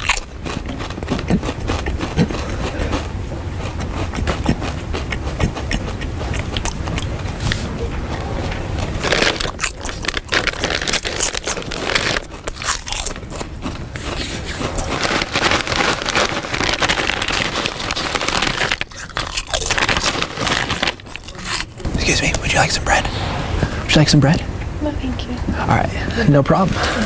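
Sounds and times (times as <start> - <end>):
crunching and chewing food: 0.0 - 22.6.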